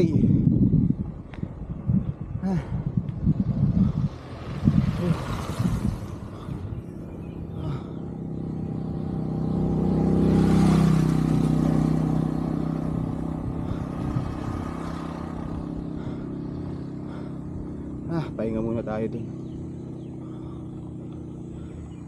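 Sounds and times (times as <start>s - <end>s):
vehicle passing on road: 0.2s - 22.0s.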